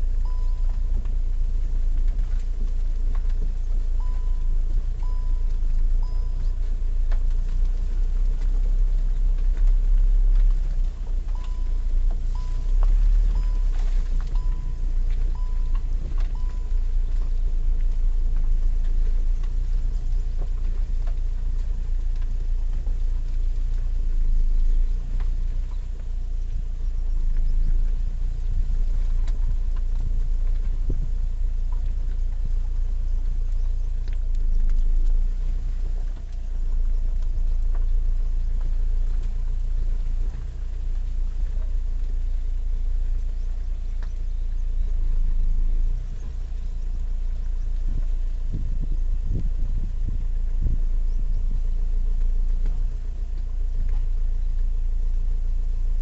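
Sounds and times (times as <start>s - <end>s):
wind buffeting microphone: 1.6s - 41.1s, 42.0s - 56.0s.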